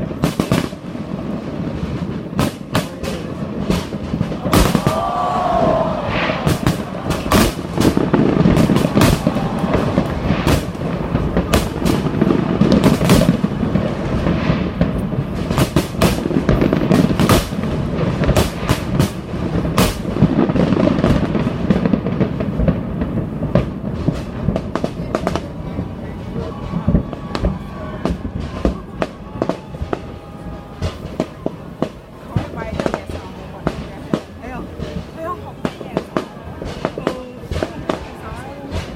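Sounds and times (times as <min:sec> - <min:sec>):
fireworks bangs and crackles: 0:00.0 - 0:38.9
rumble of explosions: 0:00.0 - 0:38.9.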